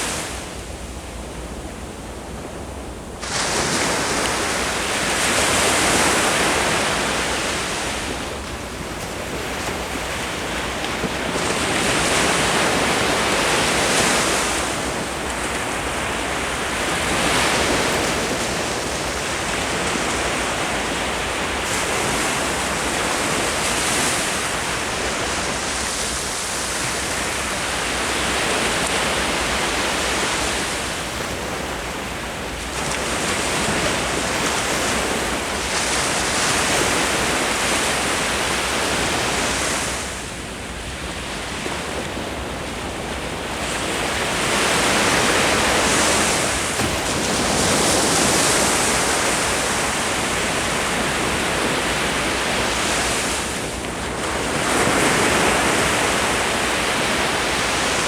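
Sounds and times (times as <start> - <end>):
ocean surf breaking: 3.2 - 40.6, 41.2 - 58.0.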